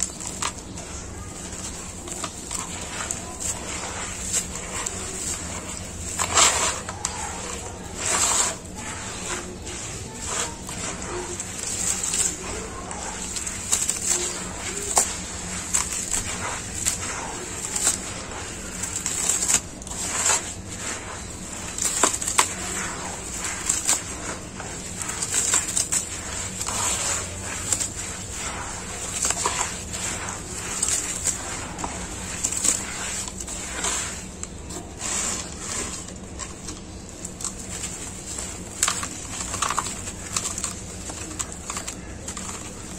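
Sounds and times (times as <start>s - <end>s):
hands squeezing wet sand: 0.0s - 42.9s.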